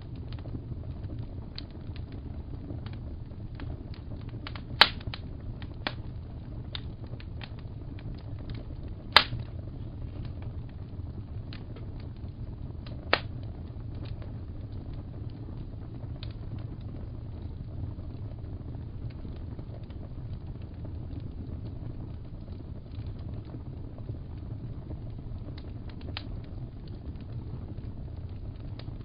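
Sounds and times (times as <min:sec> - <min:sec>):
fire crackling: 0:00.0 - 0:29.0
loud fire pops: 0:00.0 - 0:29.0
low fire rumble: 0:00.0 - 0:29.0.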